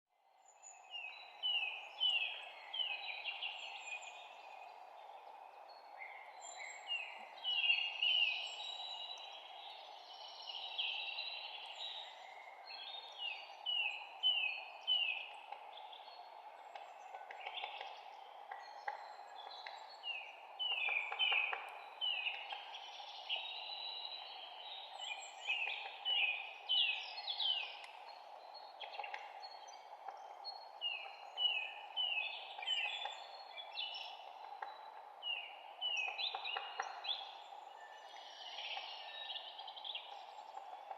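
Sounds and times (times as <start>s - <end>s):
birds chirping: 0.6s - 40.9s.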